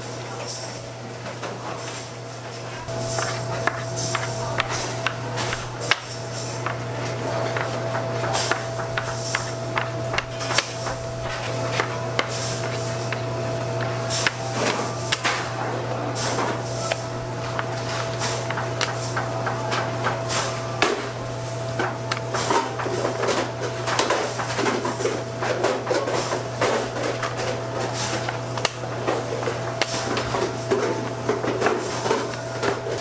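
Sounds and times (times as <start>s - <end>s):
knocks and clatter of bakery work: 0.0s - 33.0s
low machine hum: 0.0s - 33.0s.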